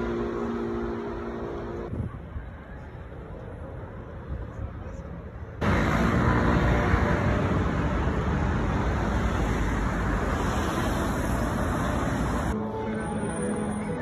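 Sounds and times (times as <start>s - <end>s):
road and wind noise: 0.0s - 14.0s.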